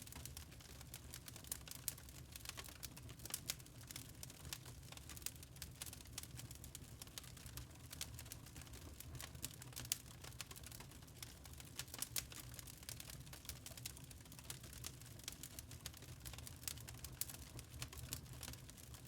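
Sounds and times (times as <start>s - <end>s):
burning wood popping and snapping: 0.2s - 19.0s.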